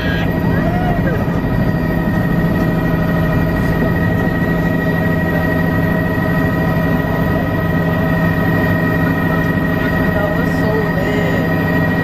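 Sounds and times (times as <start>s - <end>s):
helicopter engine drone: 0.0s - 12.0s
high whine: 0.0s - 12.0s.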